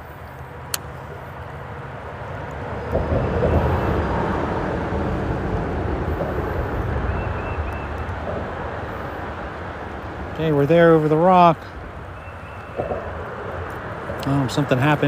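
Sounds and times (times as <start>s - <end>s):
traffic rumbling on bridge: 0.0s - 15.0s.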